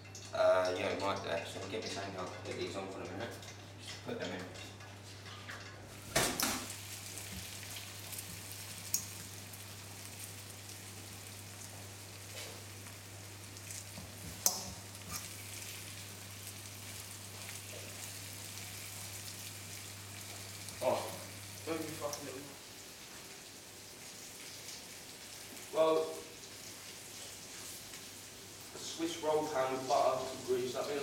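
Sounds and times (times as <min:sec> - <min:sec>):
chicken sizzling in a wok: 0:05.0 - 0:31.0.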